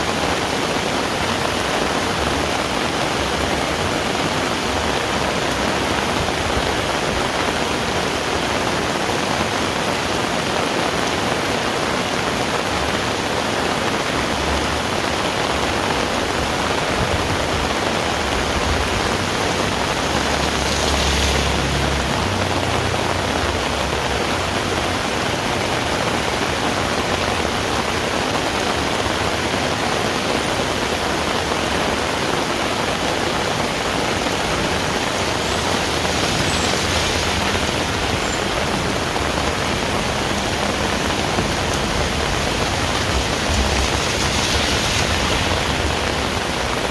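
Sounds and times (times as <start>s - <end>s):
heavy rain hissing: 0.0s - 46.9s.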